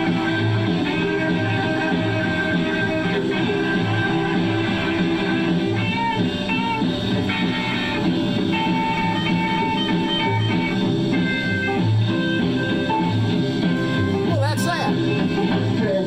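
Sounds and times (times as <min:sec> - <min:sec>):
lead guitar bending notes: 0:00.0 - 0:16.0
rockabilly band recording: 0:00.0 - 0:16.0.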